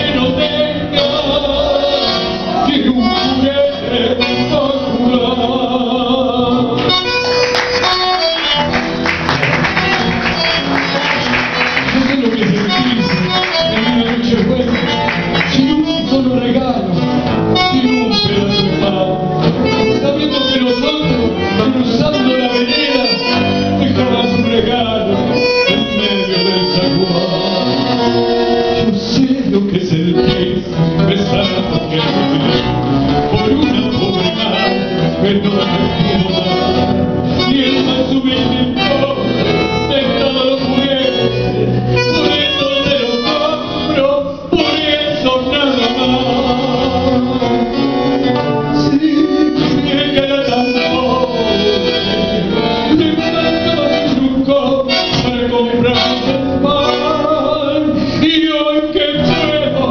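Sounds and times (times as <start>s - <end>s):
man singing through microphone: 0.0s - 8.0s, 10.4s - 59.9s
bandoneon: 0.0s - 59.9s
nylon-string guitar: 0.0s - 59.9s.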